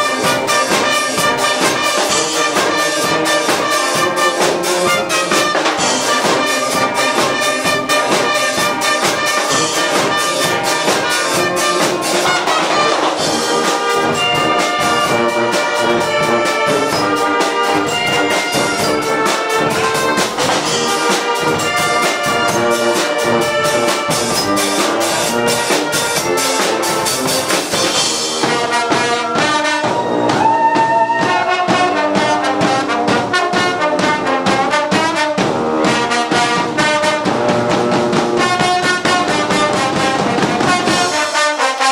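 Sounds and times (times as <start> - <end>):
driving drum beat: 0.0 - 41.9
trumpets and trombones: 0.0 - 41.9.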